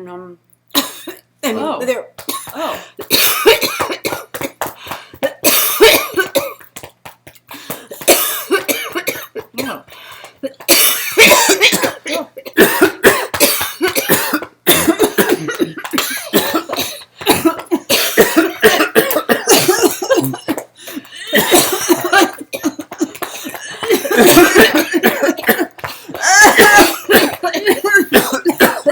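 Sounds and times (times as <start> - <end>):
person coughing hard: 0.8 - 6.7, 7.6 - 28.9.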